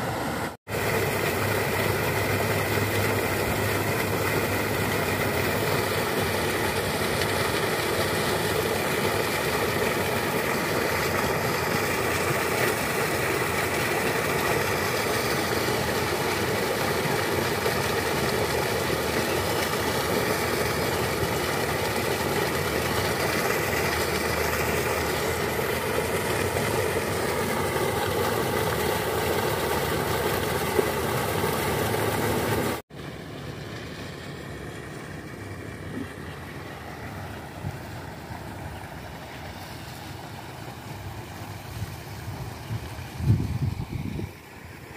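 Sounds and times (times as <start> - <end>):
engine drone: 0.0 - 44.9.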